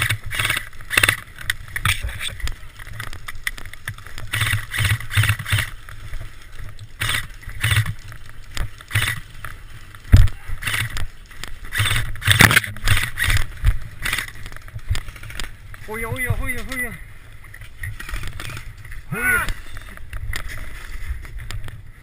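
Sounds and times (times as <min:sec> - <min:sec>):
gear rustling: 0:00.0 - 0:22.0.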